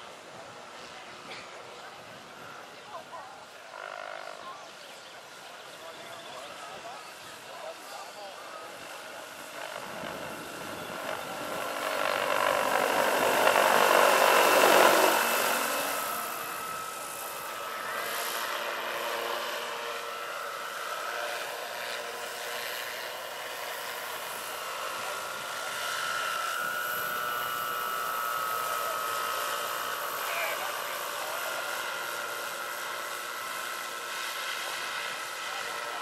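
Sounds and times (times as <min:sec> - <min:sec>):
model helicopter rotor and motor: 0:00.0 - 0:36.0
thin steady whine: 0:04.4 - 0:36.0.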